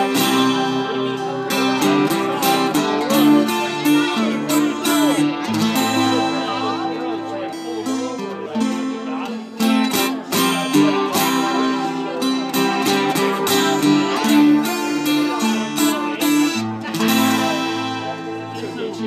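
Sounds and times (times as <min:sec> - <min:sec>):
electric guitar strumming: 0:00.0 - 0:19.0.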